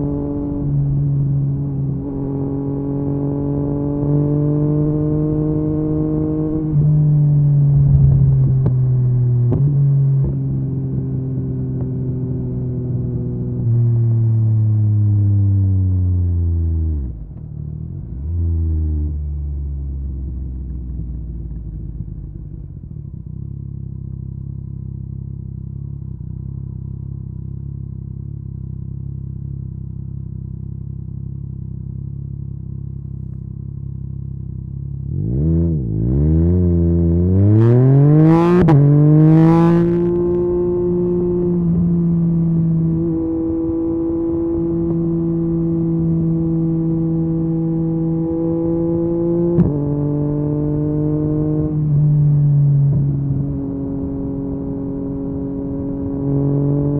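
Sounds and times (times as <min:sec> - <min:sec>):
motorcycle engine revving: 0:00.0 - 0:10.8, 0:18.1 - 0:56.9.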